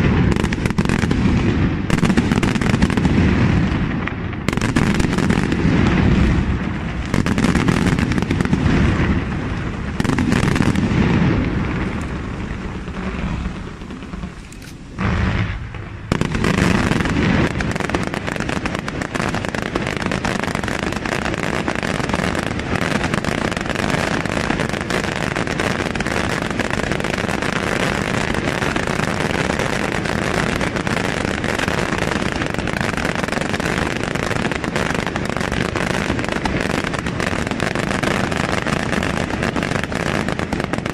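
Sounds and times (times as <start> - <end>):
barrage of firework reports: 0.0 - 40.9
fireworks booming: 0.0 - 40.9.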